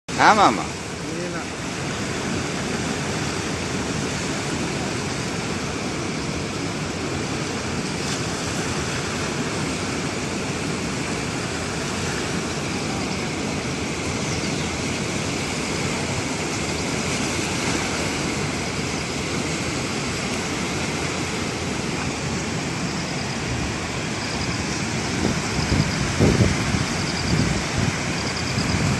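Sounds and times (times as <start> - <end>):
floodwater rushing: 0.1 - 28.9.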